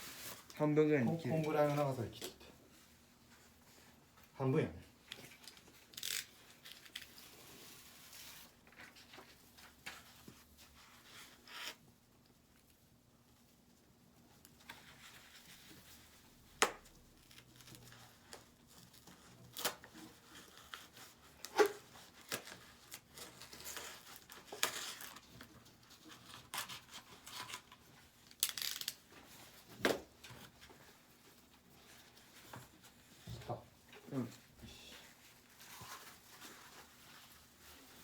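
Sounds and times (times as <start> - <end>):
rustling and crinkling: 0.0 - 38.0.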